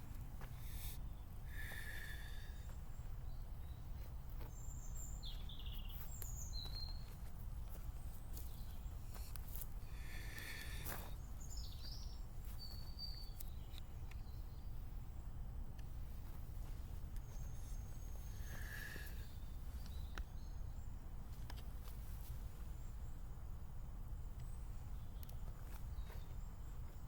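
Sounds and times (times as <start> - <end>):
low outdoor rumble: 0.0 - 27.0
small birds chirping: 0.0 - 27.0.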